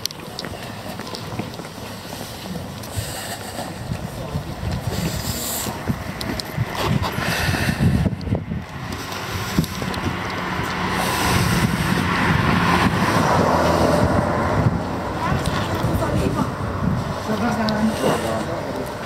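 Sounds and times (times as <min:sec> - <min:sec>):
street traffic noise: 0:00.0 - 0:19.0
wind buffeting microphone: 0:00.0 - 0:19.0
car passing: 0:00.1 - 0:19.0.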